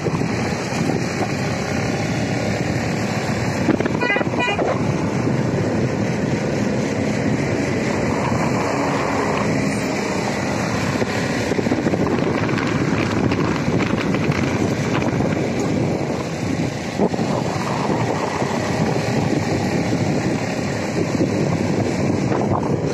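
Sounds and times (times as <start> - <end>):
road vehicle running noise: 0.0 - 22.9
wind buffeting microphone: 0.0 - 22.9.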